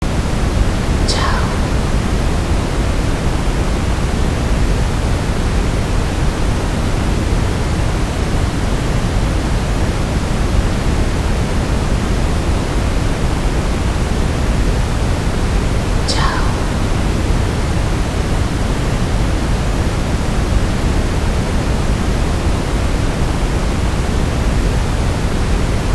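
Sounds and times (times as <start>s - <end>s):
brown noise hiss: 0.0s - 25.9s.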